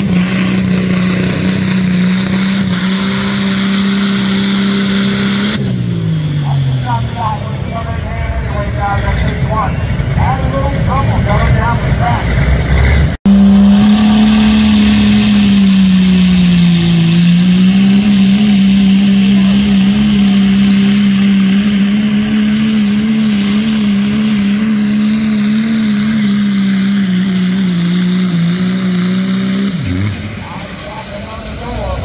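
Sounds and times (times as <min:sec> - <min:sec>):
truck engine at high revs: 0:00.0 - 0:32.0.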